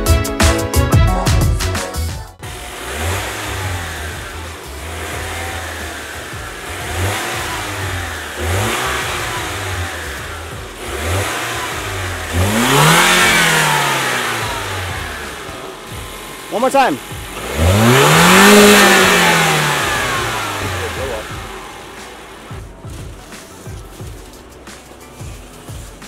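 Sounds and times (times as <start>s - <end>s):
car engine idling and revving: 2.4s - 26.0s.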